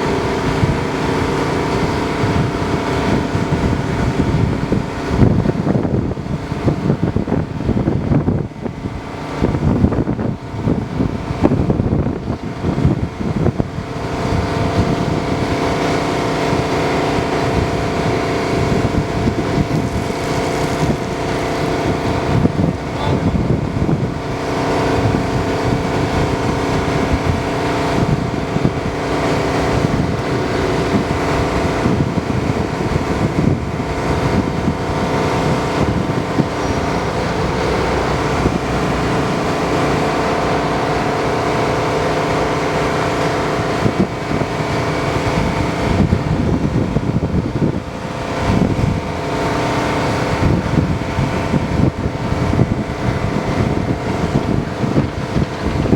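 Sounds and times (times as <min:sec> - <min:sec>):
excavator diesel engine running: 0:00.0 - 0:55.9
wind buffeting microphone: 0:00.0 - 0:55.9.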